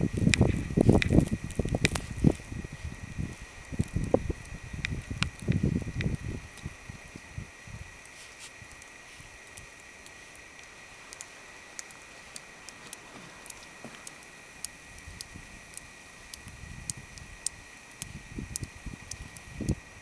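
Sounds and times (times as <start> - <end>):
faint high hum: 0.0 - 20.0
light ticks: 0.2 - 2.4, 3.3 - 6.7, 8.0 - 19.8.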